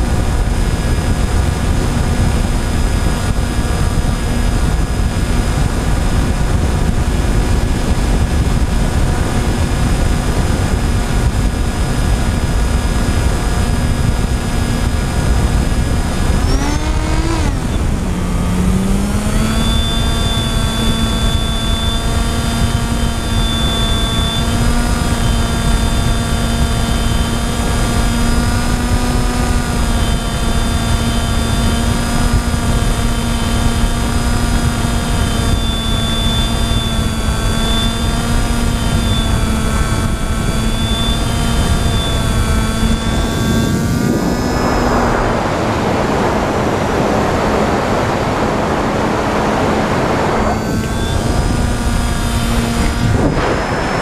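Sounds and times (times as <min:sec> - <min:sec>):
propeller motor whine: 0:00.0 - 0:54.0
wind rushing past microphone: 0:00.0 - 0:54.0.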